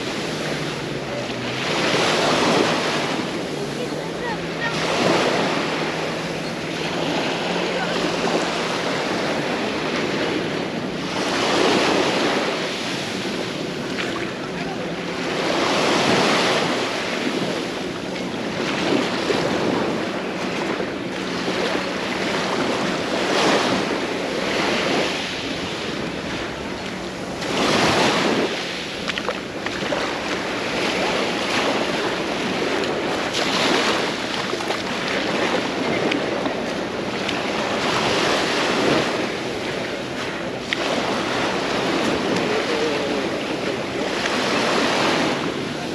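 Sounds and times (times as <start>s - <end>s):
small waves breaking on beach: 0.0s - 45.9s.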